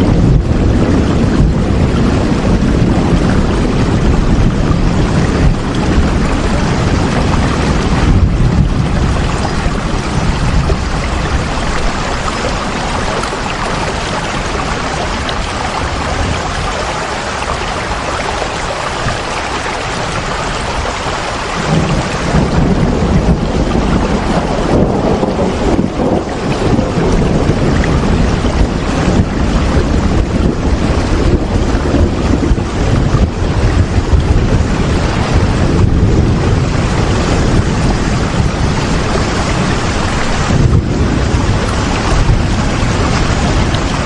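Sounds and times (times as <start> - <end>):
deep low rumble: 0.0 - 44.0
steady rain falling: 0.0 - 44.0.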